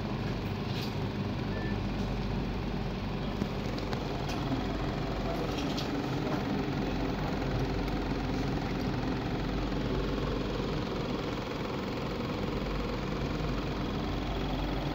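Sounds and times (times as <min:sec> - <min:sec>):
electrical hum with whir: 0:00.0 - 0:14.9.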